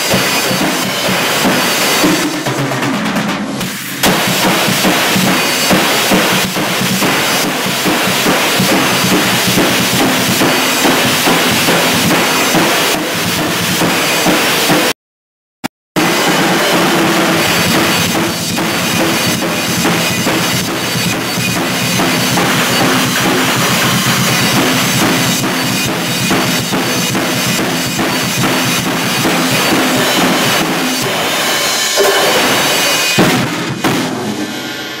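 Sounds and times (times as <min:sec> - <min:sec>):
drum kit played fast: 0:00.0 - 0:15.0, 0:16.0 - 0:35.0.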